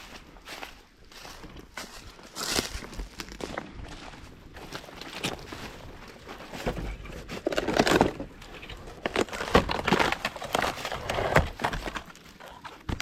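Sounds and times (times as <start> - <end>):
dry leaves crunching underfoot: 0.0 - 11.0.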